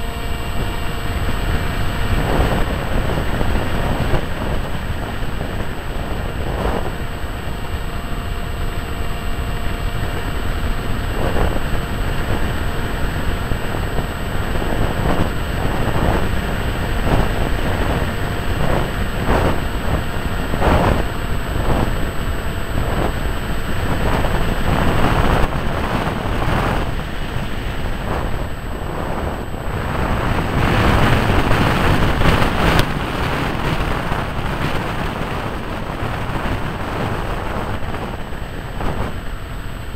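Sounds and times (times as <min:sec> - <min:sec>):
electric motor and propeller drone: 0:00.0 - 0:39.9
wind rushing over microphone: 0:00.0 - 0:39.9.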